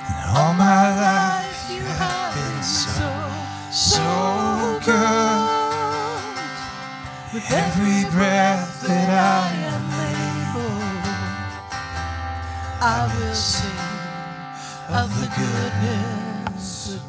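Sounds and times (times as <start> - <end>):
person singing: 0.0 - 11.6, 12.7 - 17.0
electric guitar: 0.0 - 17.0
strummed acoustic guitar: 0.0 - 17.0.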